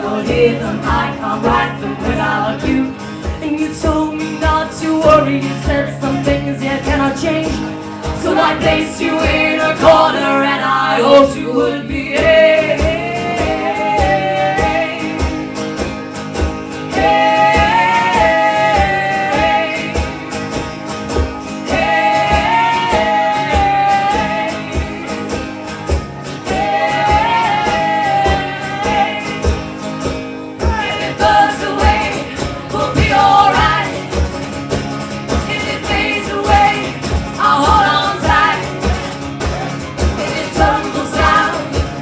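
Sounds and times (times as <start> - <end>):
guitar: 0.0 - 42.0.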